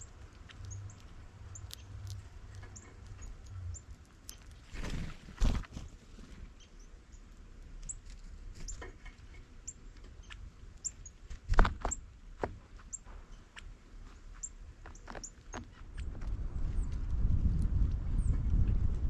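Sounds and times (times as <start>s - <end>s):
small birds chipping: 0.0s - 16.1s.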